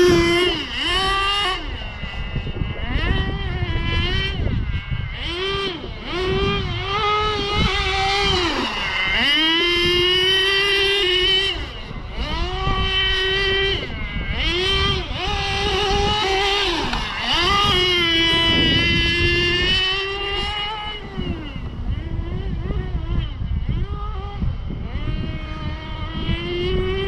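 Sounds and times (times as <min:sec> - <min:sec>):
nitro engine revving: 0:00.0 - 0:27.0.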